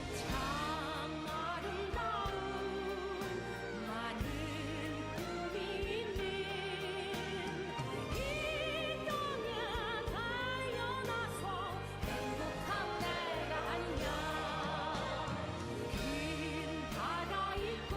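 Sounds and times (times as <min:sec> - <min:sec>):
sustained accompaniment: 0:00.0 - 0:17.9.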